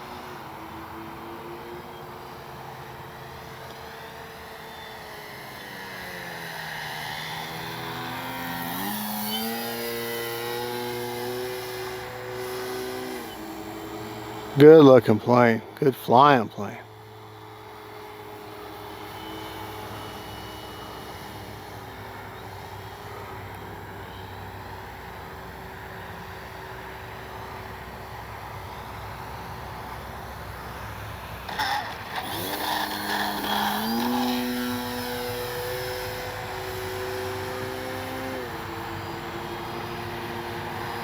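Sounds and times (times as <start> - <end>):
electric model plane motor whine: 0.0 - 14.6, 16.8 - 41.0.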